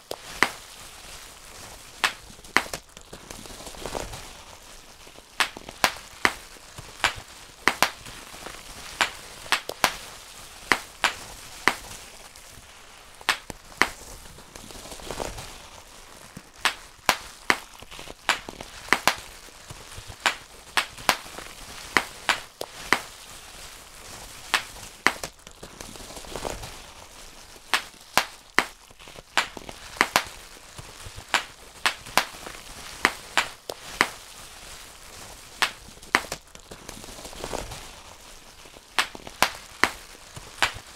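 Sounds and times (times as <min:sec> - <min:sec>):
bubble wrap popping: 0:00.0 - 0:40.9
plastic sheet crinkling: 0:00.0 - 0:40.9.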